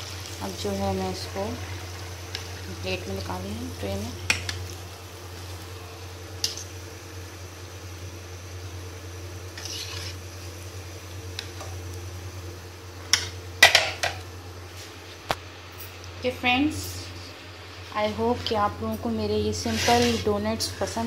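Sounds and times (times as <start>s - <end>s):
oil sizzling: 0.0s - 21.0s
steady low hum: 0.0s - 21.0s.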